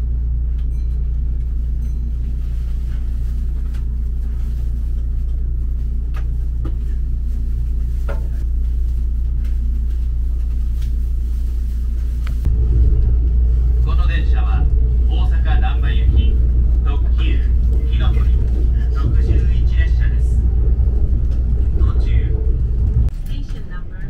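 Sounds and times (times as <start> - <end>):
train interior rumble: 0.0 - 24.0.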